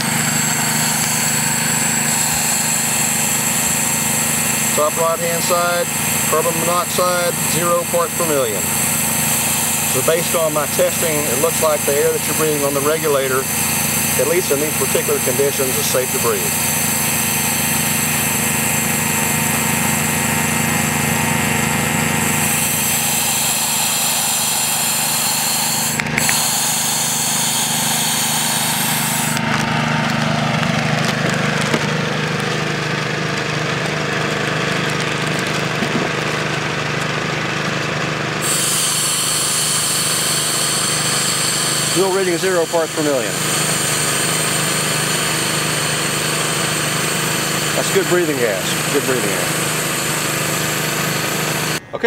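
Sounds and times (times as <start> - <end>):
compressed air hissing: 0.0 - 37.7, 38.3 - 51.9
engine running: 0.0 - 52.0.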